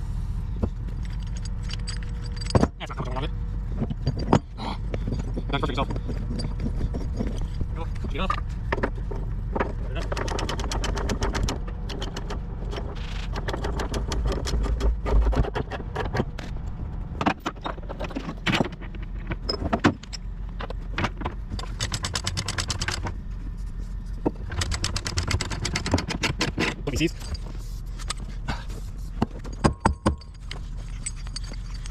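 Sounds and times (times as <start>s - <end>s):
engine running at low revs: 0.0s - 29.2s
sharp clicks and knocks: 0.6s - 23.2s, 24.0s - 31.9s.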